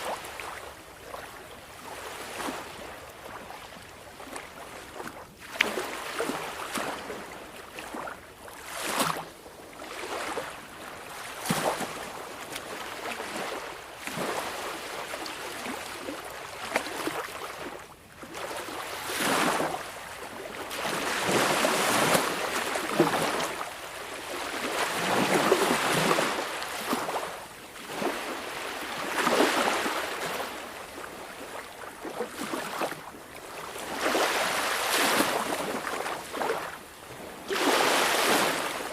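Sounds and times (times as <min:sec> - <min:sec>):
small waves washing on shore: 0:00.0 - 0:38.9.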